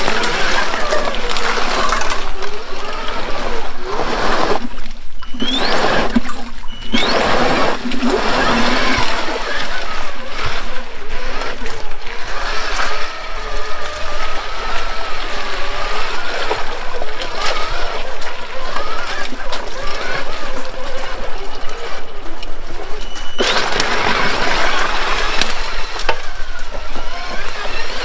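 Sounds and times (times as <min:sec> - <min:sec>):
electric motor whining: 0:00.0 - 0:28.0
water splashing under wheels: 0:00.0 - 0:28.0.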